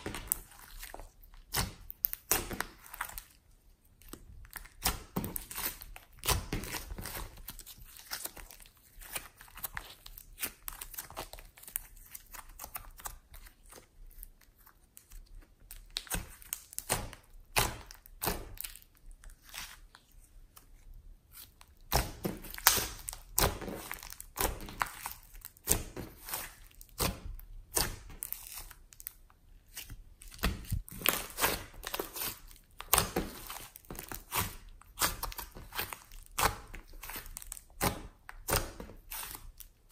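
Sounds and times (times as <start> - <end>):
slime squelching and crackling: 0.0 - 39.9.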